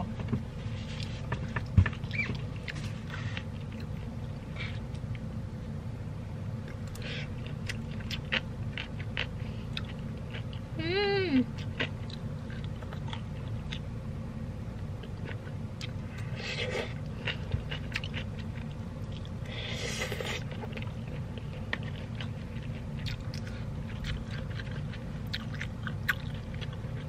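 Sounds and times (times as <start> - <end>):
steady low hum: 0.0 - 27.0
person chewing food: 0.8 - 5.3, 6.6 - 10.7, 11.5 - 13.9, 14.8 - 27.0.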